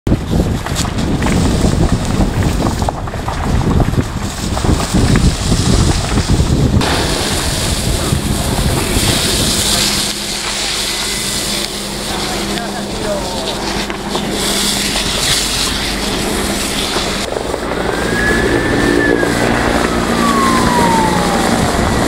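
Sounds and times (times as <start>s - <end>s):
wind buffeting microphone: 0.1s - 22.0s
hose spraying water: 4.2s - 22.0s.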